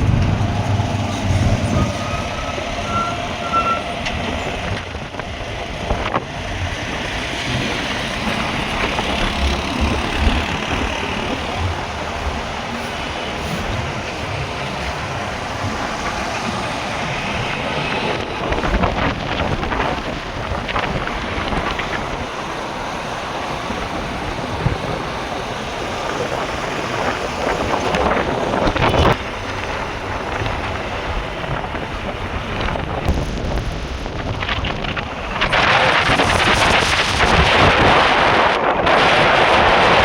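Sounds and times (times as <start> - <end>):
rumble of vehicles: 0.0 - 40.0
wind buffeting microphone: 0.0 - 40.0.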